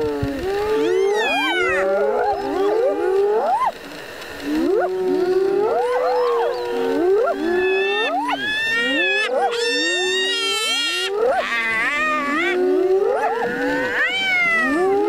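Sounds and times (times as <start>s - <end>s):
hyenas whooping: 0.0s - 15.0s.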